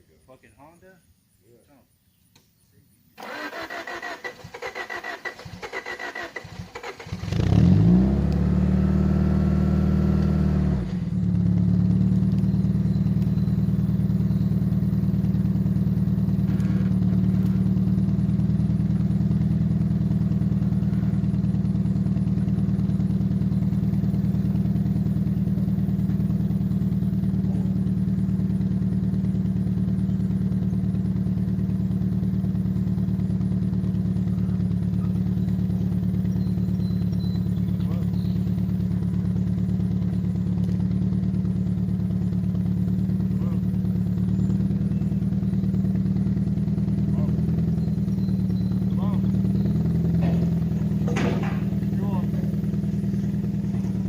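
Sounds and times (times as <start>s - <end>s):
car starter cranking: 3.2s - 8.9s, 10.1s - 30.3s, 31.4s - 54.0s
car engine revving and idling: 4.3s - 54.0s.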